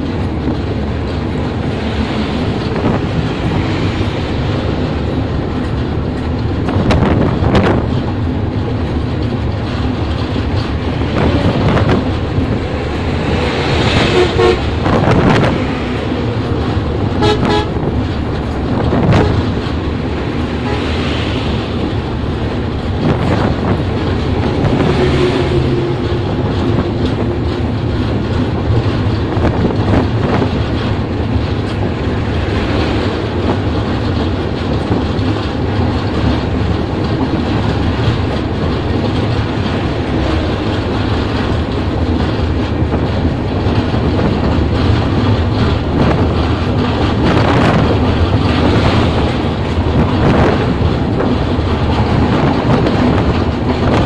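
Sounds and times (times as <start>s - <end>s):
train wheels rumbling and rattling: 0.0s - 54.0s.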